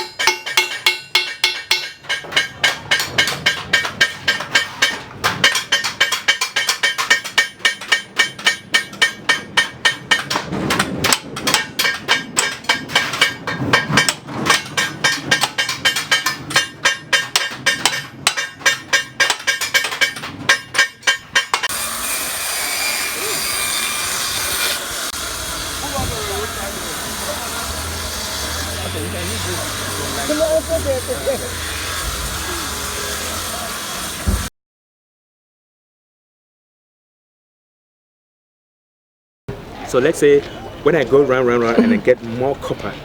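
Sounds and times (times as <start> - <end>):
hammer striking metal: 0.0 - 34.5.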